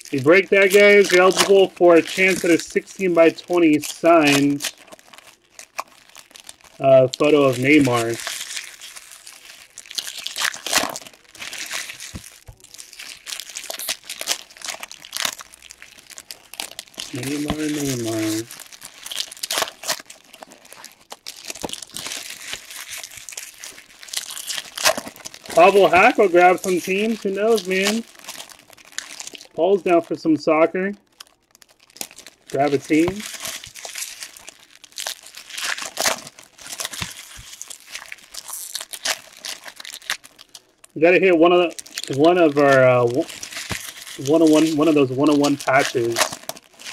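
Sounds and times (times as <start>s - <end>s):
foil wrappers crinkling and tearing: 0.0s - 46.9s.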